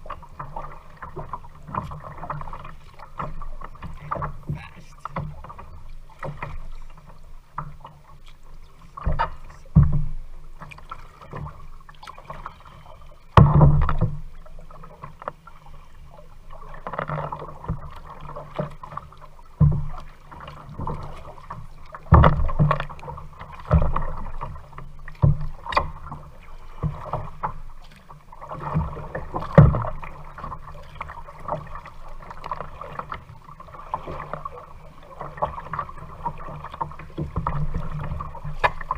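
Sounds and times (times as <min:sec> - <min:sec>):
paddle strokes in water: 0:00.0 - 0:38.9.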